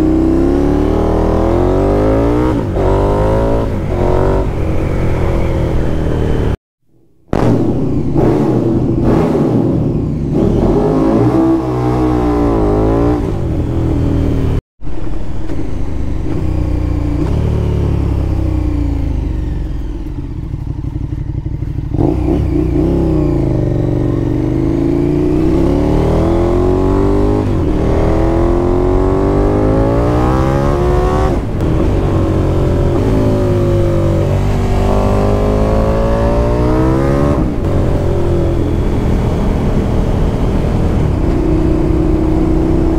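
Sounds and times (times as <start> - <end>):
motorcycle engine revving: 0.0 - 6.6, 7.3 - 42.9.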